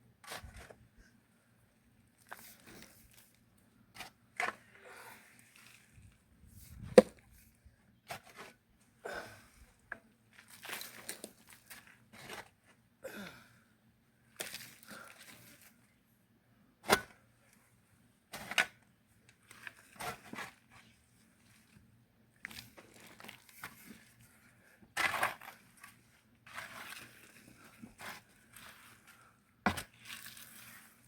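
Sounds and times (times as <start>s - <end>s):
scraping and crunching of soil: 0.2s - 0.9s, 2.0s - 8.7s, 9.7s - 12.8s, 14.3s - 16.0s, 18.2s - 31.0s.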